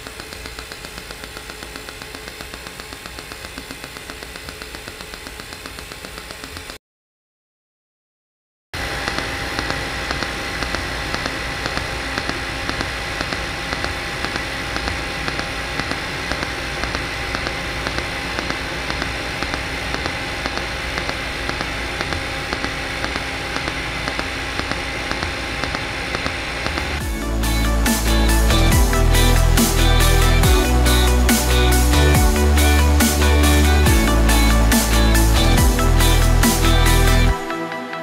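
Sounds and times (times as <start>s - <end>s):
regular ticking of pulsing current: 0.0s - 6.8s, 9.0s - 37.4s
welding arc hissing: 0.0s - 6.8s, 8.8s - 37.5s.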